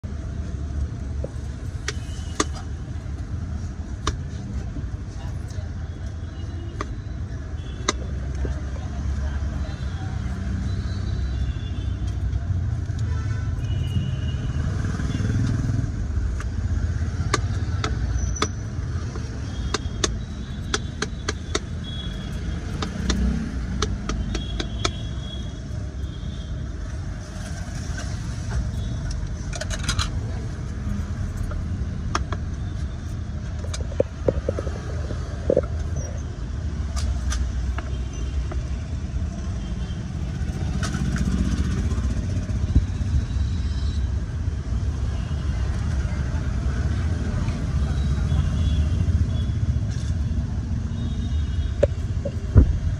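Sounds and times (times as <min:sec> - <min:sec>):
street traffic rumble: 0:00.0 - 0:52.9.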